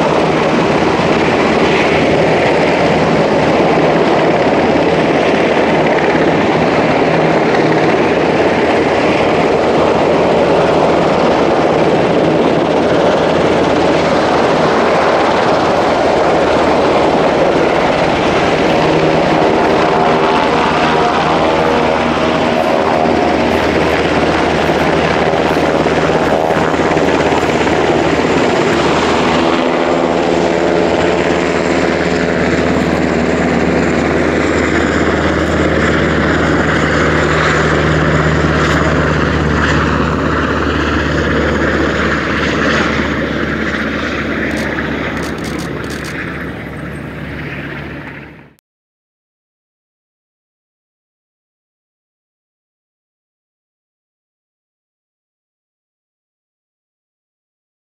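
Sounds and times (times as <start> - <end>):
helicopter flying past: 0.0 - 48.6
jet flying over: 0.0 - 48.6.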